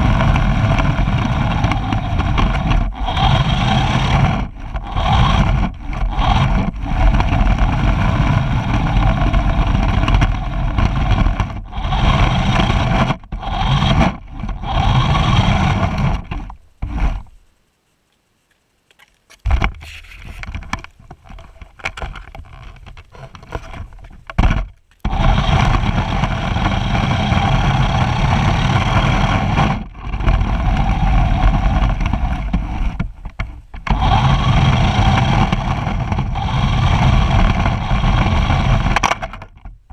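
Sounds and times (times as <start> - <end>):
wind on microphone: 0.0 - 17.4, 22.0 - 39.9.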